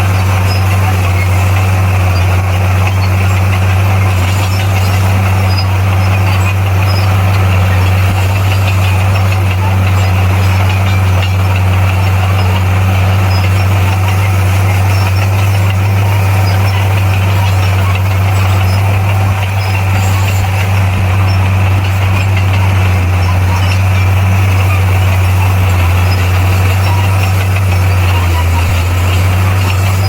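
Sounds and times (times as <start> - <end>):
diesel engine deep drone: 0.0 - 30.0.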